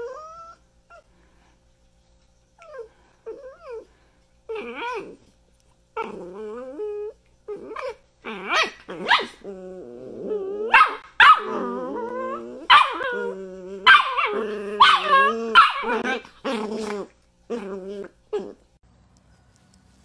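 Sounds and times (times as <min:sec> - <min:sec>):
puppies growling: 0:00.0 - 0:01.5, 0:02.6 - 0:18.8.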